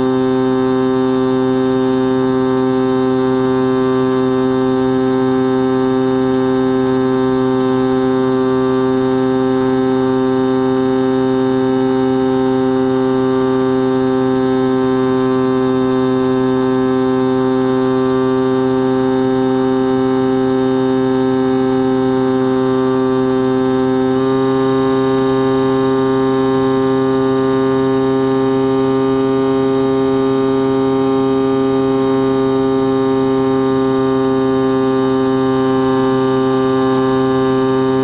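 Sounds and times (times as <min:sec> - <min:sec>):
propeller motor drone: 0:00.0 - 0:38.0.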